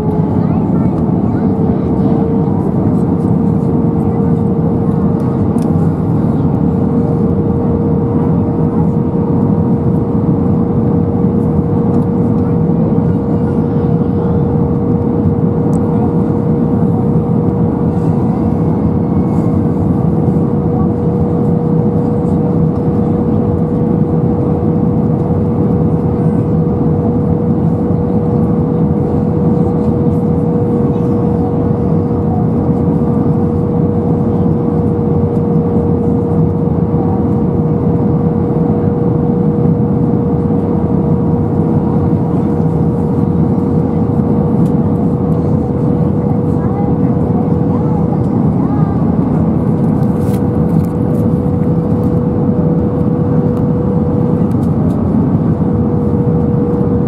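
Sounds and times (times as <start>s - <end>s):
cabin airflow rush: 0.0s - 57.0s
constant hum tone: 0.0s - 57.0s
jet engine noise: 0.0s - 57.0s.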